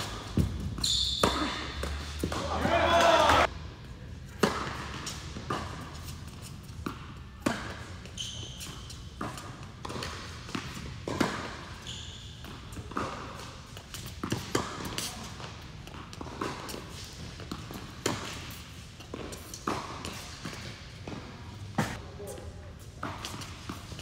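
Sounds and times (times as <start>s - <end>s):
racket hitting tennis ball: 0.0s - 3.5s, 4.3s - 11.8s, 12.4s - 22.0s
tennis ball bouncing: 0.0s - 3.5s, 4.3s - 11.8s, 12.4s - 22.0s
tennis shoes squeaking: 0.0s - 3.5s, 5.0s - 22.0s.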